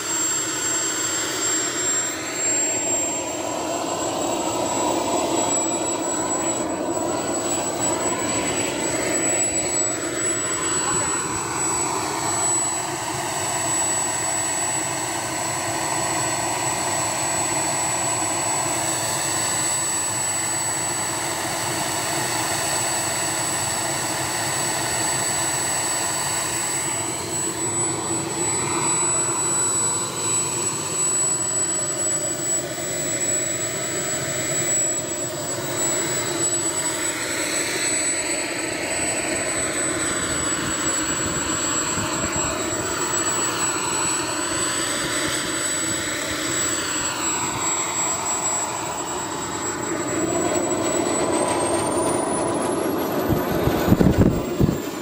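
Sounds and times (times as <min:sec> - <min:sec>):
jet engine with high-pitched whine: 0:00.0 - 0:55.0.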